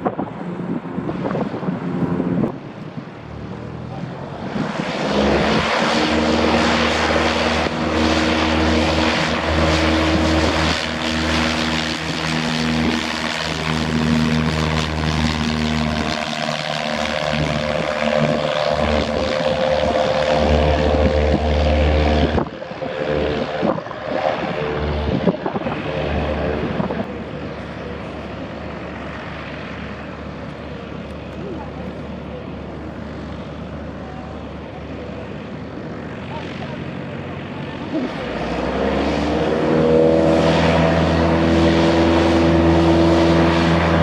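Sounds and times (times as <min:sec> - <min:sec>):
propeller airplane engine: 0:00.0 - 0:44.0.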